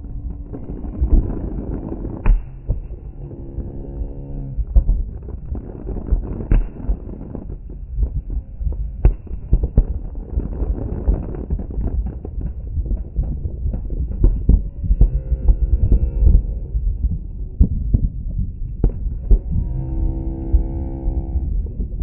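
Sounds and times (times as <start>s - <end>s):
fireworks booming: 0.0s - 20.7s
low rumble: 0.0s - 22.0s.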